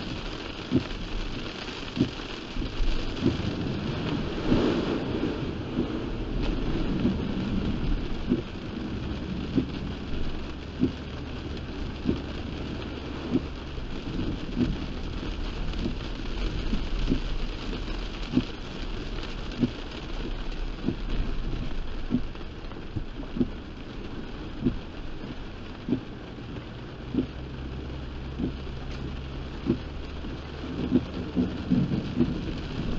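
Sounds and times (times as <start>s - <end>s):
heavy rain drumming on car: 0.0s - 32.9s
road and engine rumble: 0.0s - 32.9s
windshield wipers thudding: 0.0s - 32.9s.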